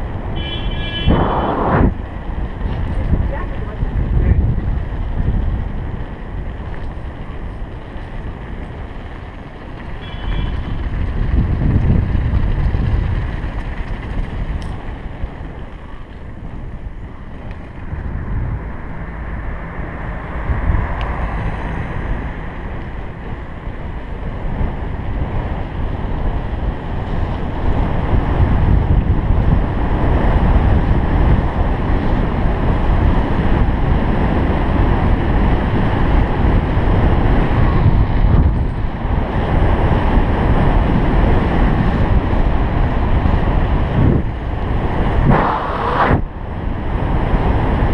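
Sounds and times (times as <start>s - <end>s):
bike tyre rumble: 0.0s - 47.9s
wind rushing over microphone: 0.0s - 47.9s.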